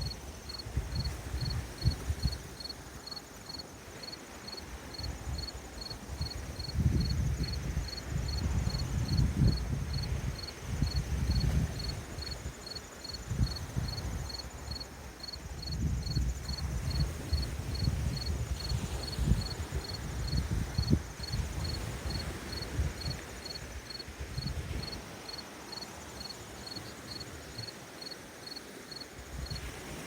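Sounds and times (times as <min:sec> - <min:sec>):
high insect trill: 0:00.0 - 0:29.7
crickets chirping: 0:00.0 - 0:30.0.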